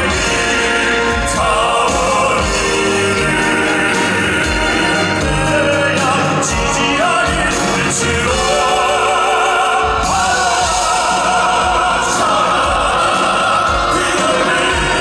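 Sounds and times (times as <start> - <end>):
instrumental accompaniment with beat: 0.0 - 15.0
operatic male singing: 0.0 - 15.0.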